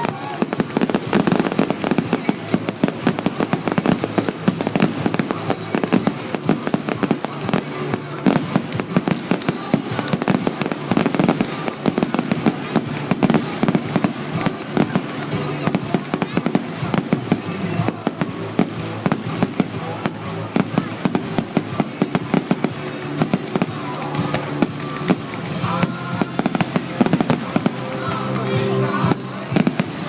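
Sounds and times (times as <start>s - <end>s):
fireworks crackling and popping: 0.0s - 30.0s.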